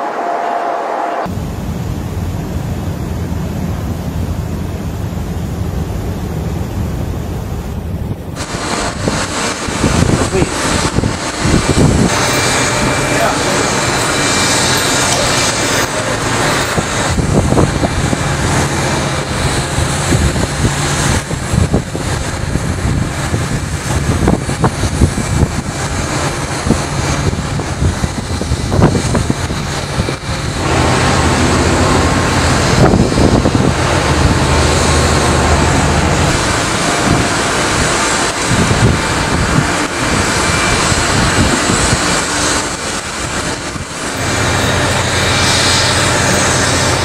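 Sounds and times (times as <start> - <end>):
machinery hum: 0.0 - 47.0
wind on microphone: 6.4 - 47.0.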